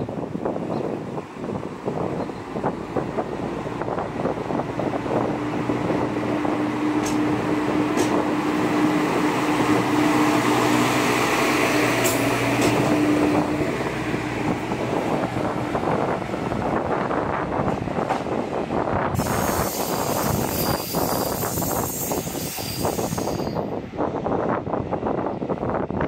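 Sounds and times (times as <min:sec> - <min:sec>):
diesel railcar engine humming: 0:00.0 - 0:26.0.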